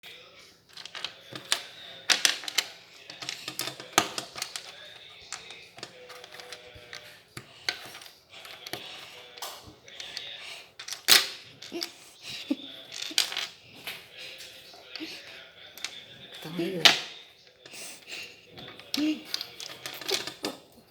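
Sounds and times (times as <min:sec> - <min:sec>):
plastic bricks clicking and clattering: 0:00.7 - 0:20.8.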